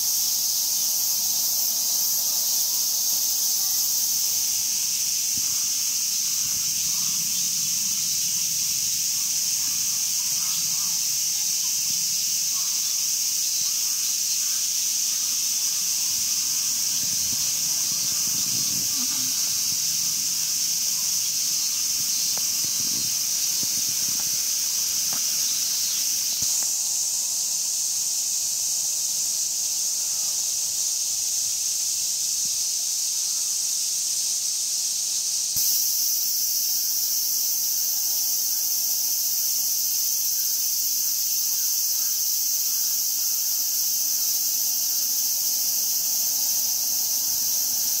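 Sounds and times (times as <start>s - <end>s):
cicadas buzzing: 0.0s - 48.0s.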